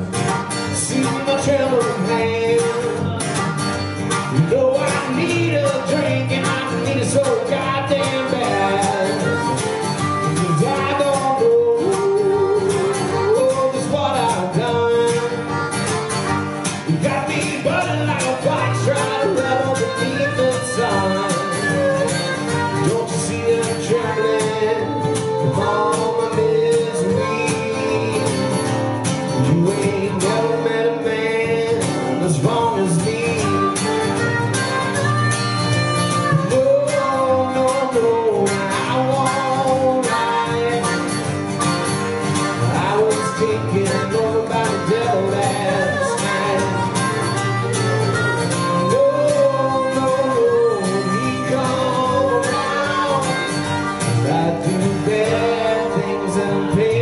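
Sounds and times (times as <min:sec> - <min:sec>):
acoustic guitar: 0:00.0 - 0:57.0
harmonica playing lead line: 0:00.0 - 0:57.0.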